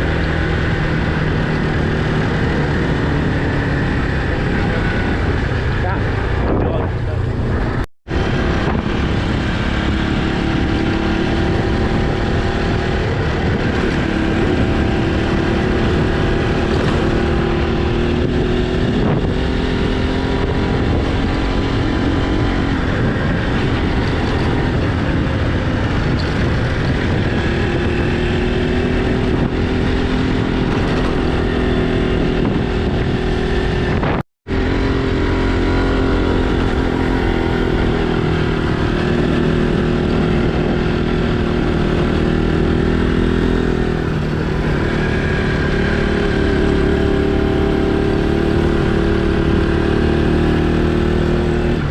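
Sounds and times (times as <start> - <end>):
motorcycle engine running: 0.0 - 51.9
wind rumble on microphone: 0.0 - 51.9.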